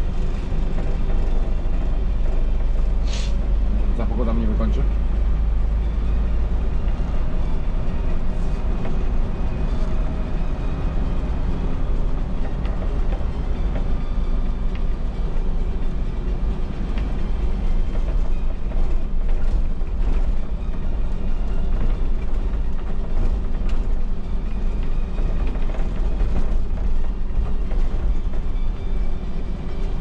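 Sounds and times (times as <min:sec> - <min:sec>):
diesel bus engine: 0:00.0 - 0:30.0
road rumble: 0:00.0 - 0:30.0.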